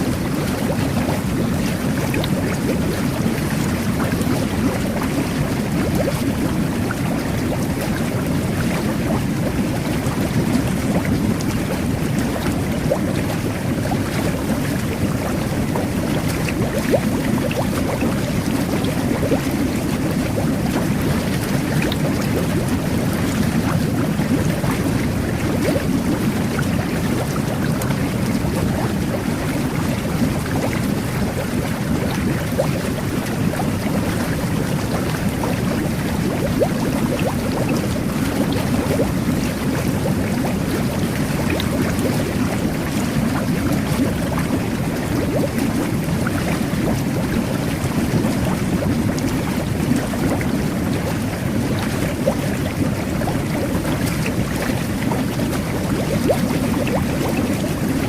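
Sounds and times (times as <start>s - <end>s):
bubbles bursting: 0.0s - 58.0s
water churning under jets: 0.0s - 58.0s.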